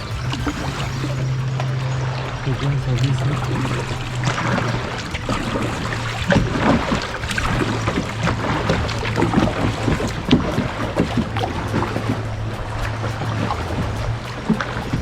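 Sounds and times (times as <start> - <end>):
low steady hum: 0.0 - 15.0
paddle dips: 0.0 - 15.0
sea water splashing and lapping: 0.0 - 15.0.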